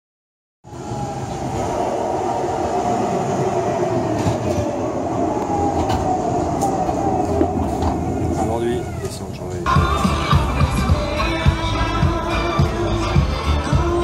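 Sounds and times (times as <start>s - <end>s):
train rumble: 0.7s - 14.0s.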